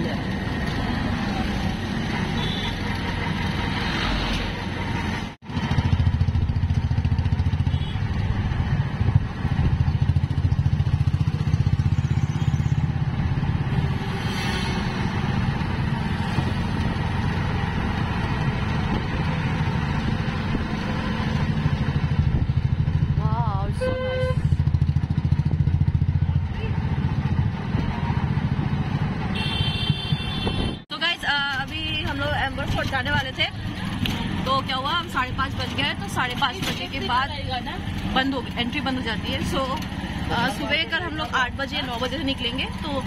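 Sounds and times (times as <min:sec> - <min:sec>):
auto-rickshaw engine running: 0:00.0 - 0:43.0
motorcycle and scooter traffic: 0:00.0 - 0:43.0.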